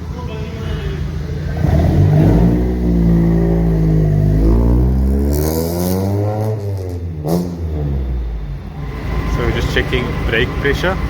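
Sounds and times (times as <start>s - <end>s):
roller brake tester droning: 0.0s - 11.0s.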